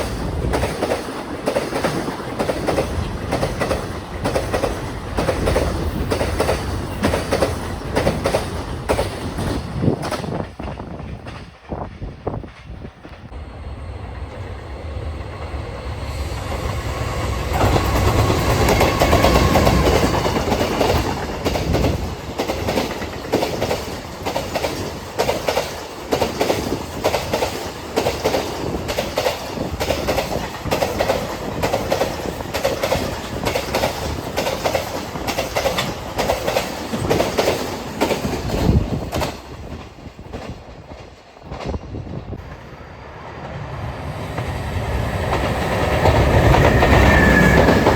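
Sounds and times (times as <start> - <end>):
train wheels clickety-clack: 0.0 - 13.4, 15.0 - 47.9
freight train passing: 0.0 - 47.9.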